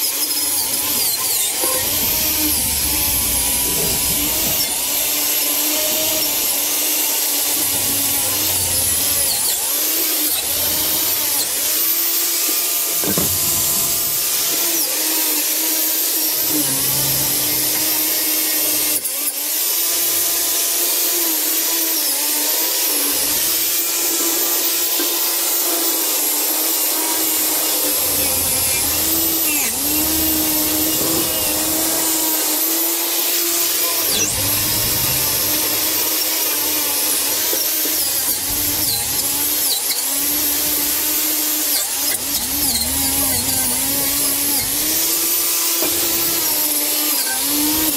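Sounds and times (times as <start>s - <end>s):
angle grinder grinding metal: 0.0s - 47.9s.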